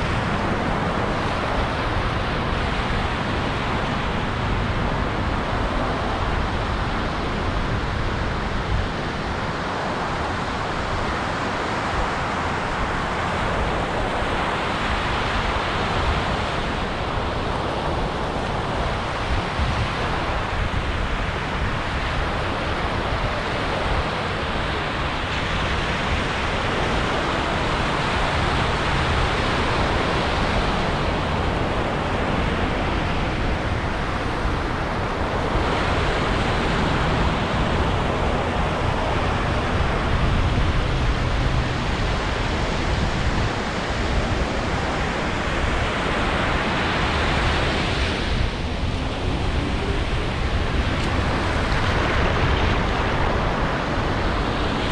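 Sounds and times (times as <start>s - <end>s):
ocean surf breaking: 0.0s - 54.9s.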